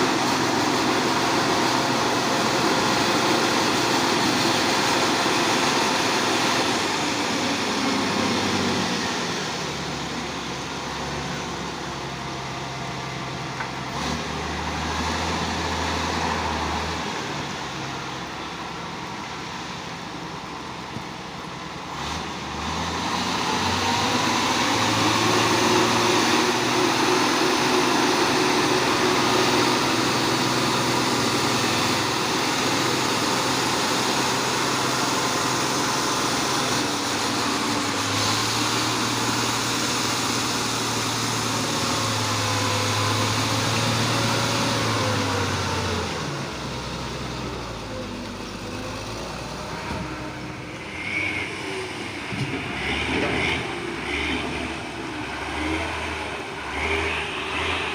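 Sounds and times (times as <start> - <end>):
truck engine revving: 0.0 - 18.6, 21.8 - 57.9.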